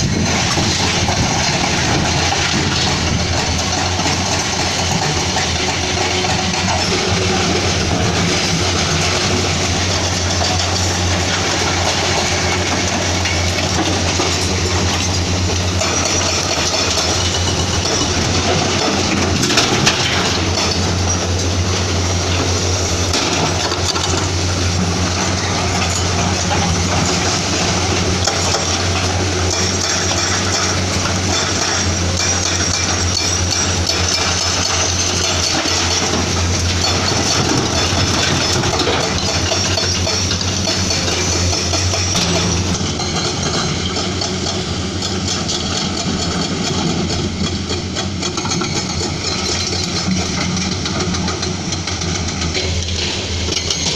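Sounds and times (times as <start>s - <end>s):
excavator diesel engine running: 0.0s - 53.9s
hydraulic machine noise: 0.0s - 53.9s.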